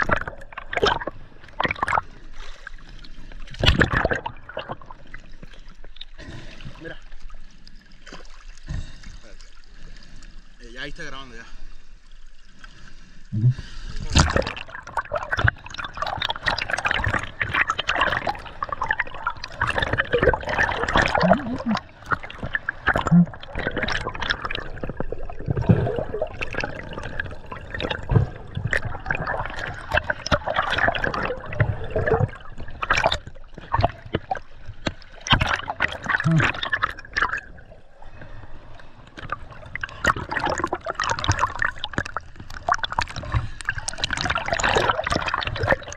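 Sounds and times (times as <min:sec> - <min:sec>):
water sloshing and splashing: 0:00.0 - 0:45.9.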